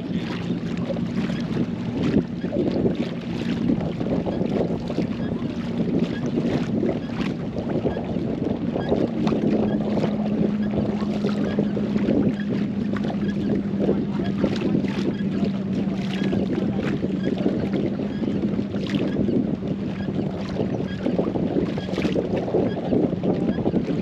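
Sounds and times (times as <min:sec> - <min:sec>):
water splashing along hull: 0:00.0 - 0:24.0
wind buffeting microphone: 0:00.0 - 0:24.0.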